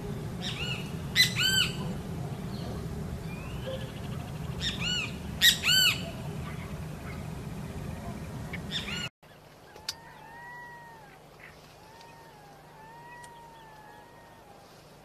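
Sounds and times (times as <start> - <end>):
low background hum: 0.0 - 15.0
toucan calling: 0.4 - 7.3, 7.9 - 14.7.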